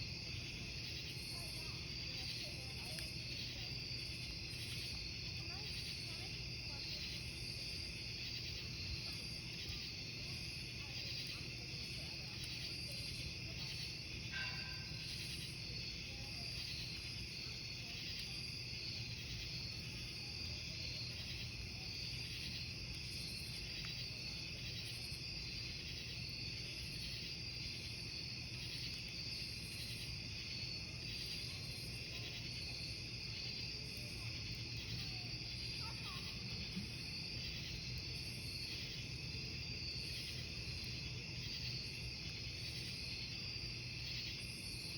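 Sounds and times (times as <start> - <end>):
campfire burning: 0.0 - 44.9
crickets chirping: 0.0 - 44.9.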